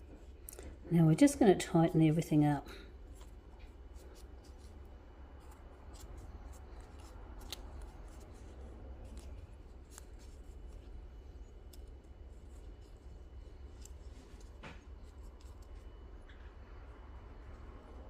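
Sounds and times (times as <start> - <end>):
dried leaf strips crackling: 2.0 - 17.9.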